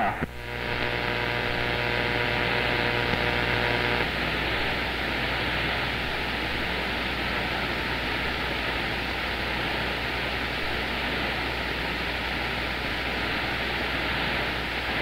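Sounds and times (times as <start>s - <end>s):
radio hiss and static: 0.0s - 15.0s
steady multi-tone hum: 0.0s - 15.0s.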